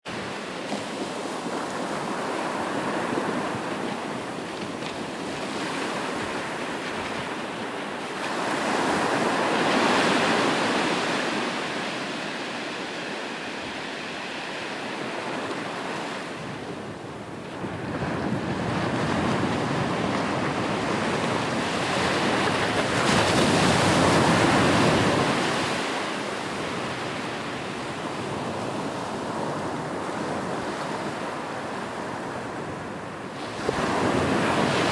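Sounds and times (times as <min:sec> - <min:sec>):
sea waves washing onto shore: 0:00.1 - 0:34.9.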